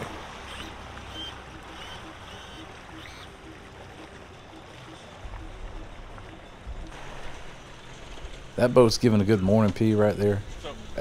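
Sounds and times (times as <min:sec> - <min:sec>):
outboard motor rumbling: 0:00.0 - 0:11.0
propeller churning water: 0:00.0 - 0:11.0.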